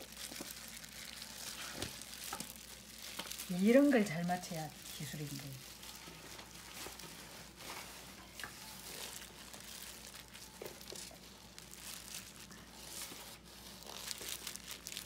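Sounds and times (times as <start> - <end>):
faint crinkling and rustling: 0.0 - 15.0.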